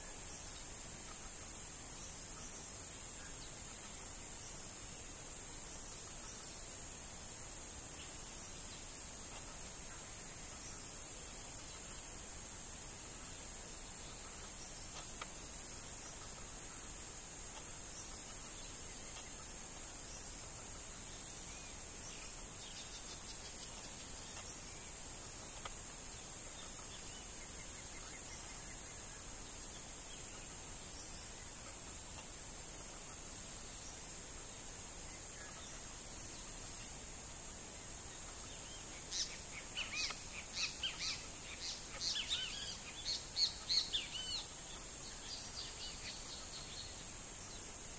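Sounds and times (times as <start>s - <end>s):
high-pitched insect drone: 0.0s - 47.9s.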